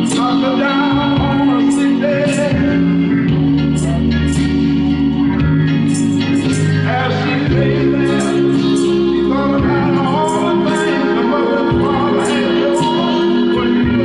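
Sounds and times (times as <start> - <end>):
bass line: 0.0 - 14.0
song with singing: 0.0 - 14.0.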